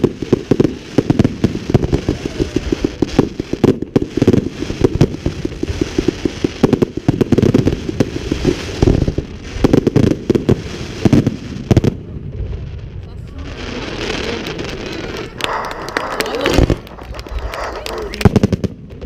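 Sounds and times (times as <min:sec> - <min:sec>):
fireworks booming bursts: 0:00.0 - 0:19.0.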